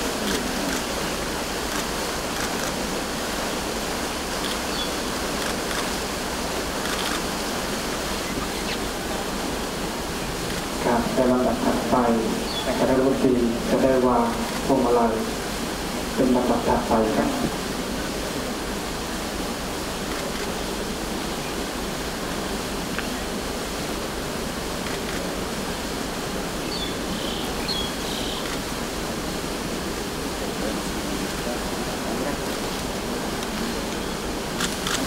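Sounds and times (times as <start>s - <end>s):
steady outdoor hiss: 0.0s - 35.0s.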